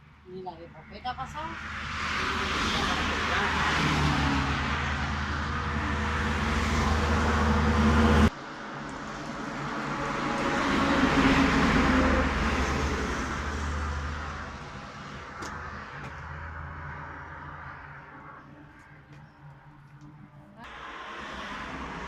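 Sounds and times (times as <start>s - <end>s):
traffic noise: 0.0s - 22.0s
vehicle passing: 0.6s - 22.0s.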